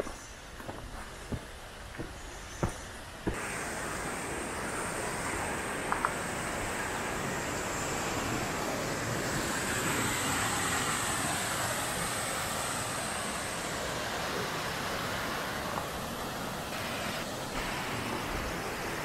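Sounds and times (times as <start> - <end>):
waterfall roaring: 2.6 - 19.0.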